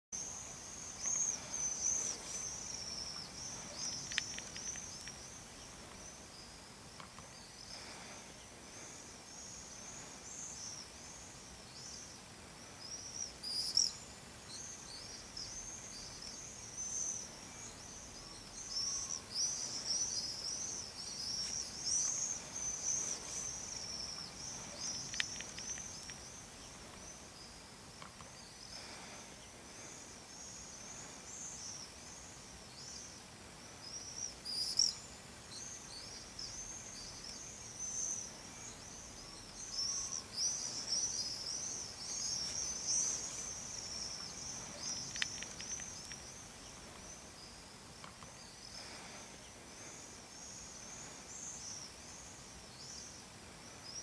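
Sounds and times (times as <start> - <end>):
small birds twittering: 0.1 - 54.0.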